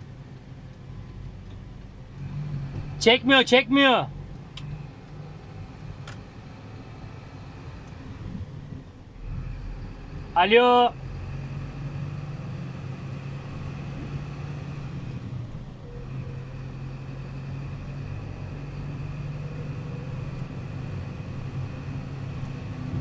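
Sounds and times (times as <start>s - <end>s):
diesel truck engine running: 0.0s - 23.0s
road noise: 0.0s - 23.0s.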